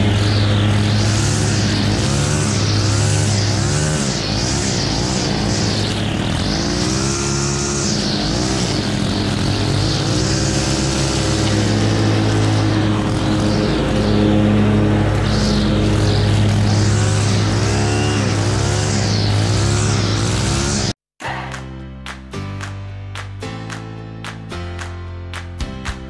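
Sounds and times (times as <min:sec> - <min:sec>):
string trimmer engine revving: 0:00.0 - 0:21.0
trimmer line cutting grass: 0:00.0 - 0:21.0.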